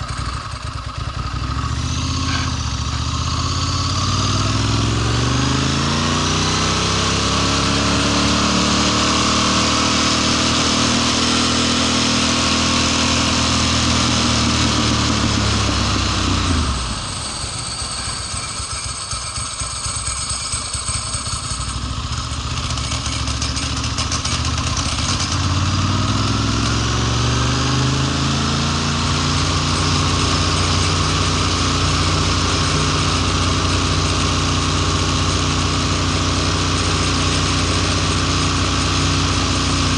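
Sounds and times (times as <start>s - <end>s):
motorcycle engine sputtering: 0.0s - 7.8s, 9.3s - 39.9s.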